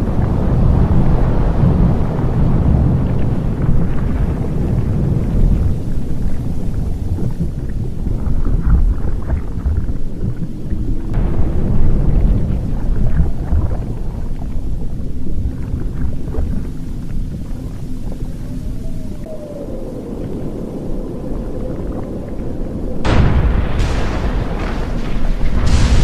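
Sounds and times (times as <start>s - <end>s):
deep volcanic rumble: 0.0s - 26.0s
lava crackling: 0.0s - 26.0s.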